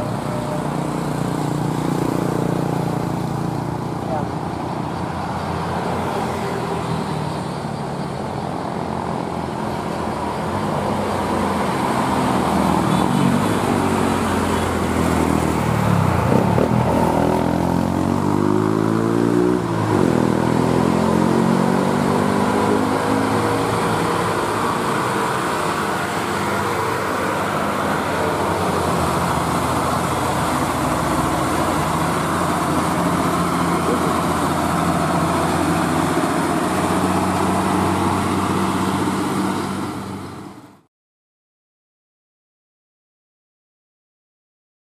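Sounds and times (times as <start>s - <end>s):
heavy diesel vehicles running: 0.0s - 40.8s
truck diesel engine climbing hill: 0.0s - 40.9s.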